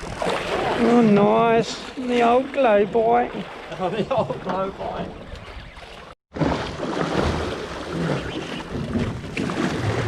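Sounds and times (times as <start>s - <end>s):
water washing against boat: 0.0s - 10.0s.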